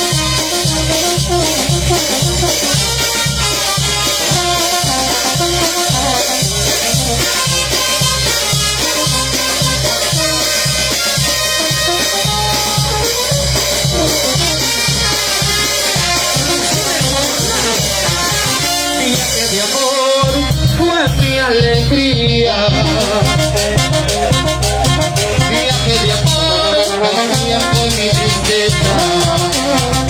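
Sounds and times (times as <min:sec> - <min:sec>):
band playing instrumental music: 0:00.0 - 0:30.0.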